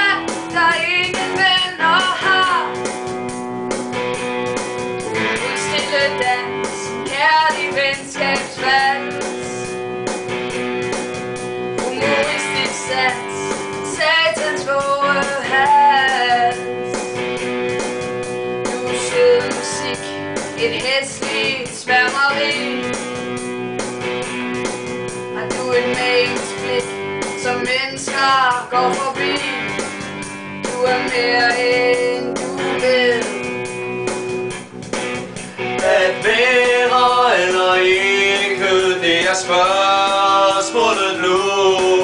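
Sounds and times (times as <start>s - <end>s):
guitar-backed song: 0.0s - 42.0s.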